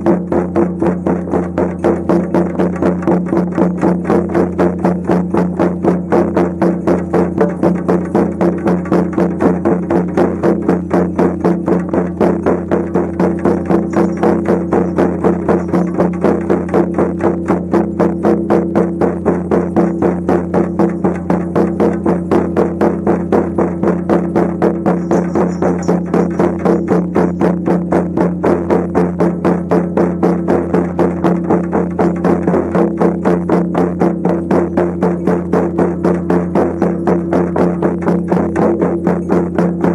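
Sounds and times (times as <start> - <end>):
frame drums beaten steadily: 0.0 - 39.9.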